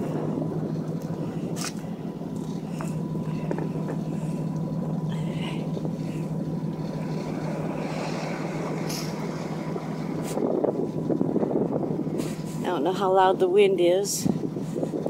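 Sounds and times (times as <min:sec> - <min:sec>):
ship machinery droning: 0:00.0 - 0:15.0.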